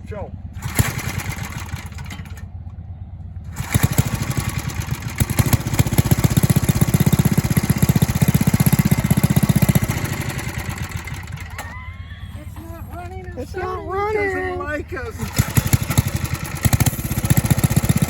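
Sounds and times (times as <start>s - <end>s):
minibike engine running: 0.4s - 18.0s.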